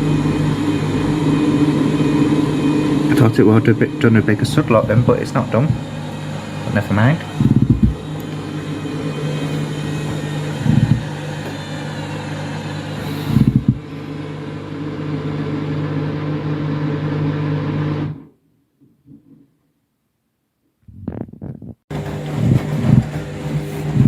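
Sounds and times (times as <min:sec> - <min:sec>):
washing machine motor hum: 0:00.0 - 0:18.3, 0:21.9 - 0:24.0.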